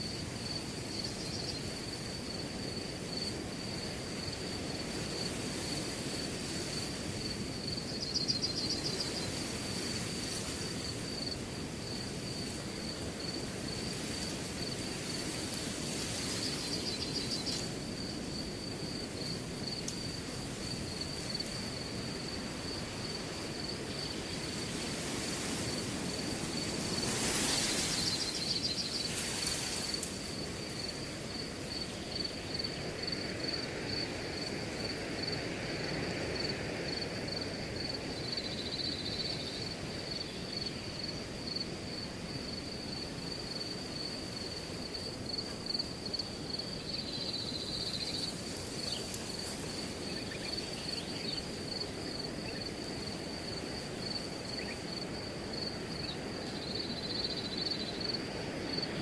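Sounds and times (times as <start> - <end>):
cricket chirping: 0.0 - 59.0
wind rustling grass: 0.0 - 59.0.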